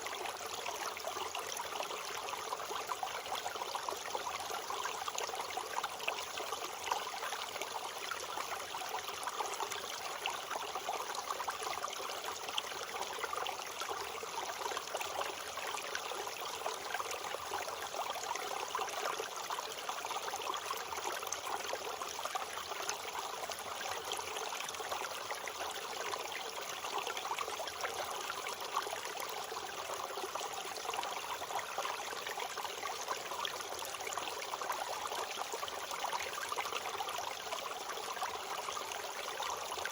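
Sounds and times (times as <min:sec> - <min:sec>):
stream babbling and trickling: 0:00.0 - 0:39.9.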